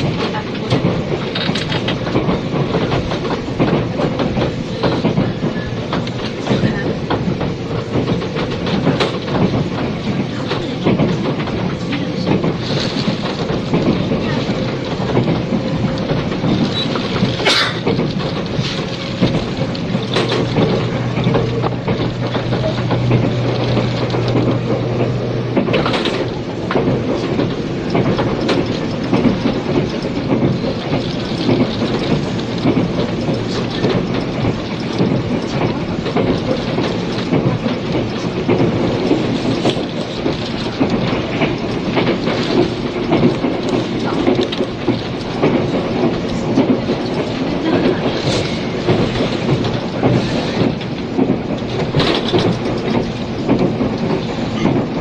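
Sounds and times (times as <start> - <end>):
train rolling noise: 0.0 - 55.0
wheels clacking over rail joints: 0.0 - 55.0.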